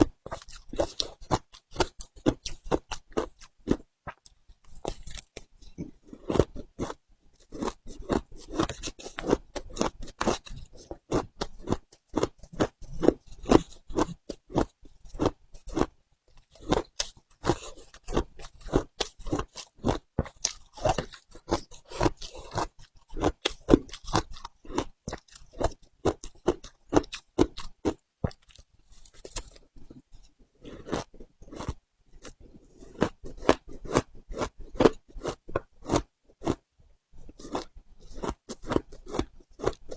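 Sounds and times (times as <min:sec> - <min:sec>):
ice crunching while chewed: 0:00.2 - 0:36.6, 0:37.3 - 0:39.9.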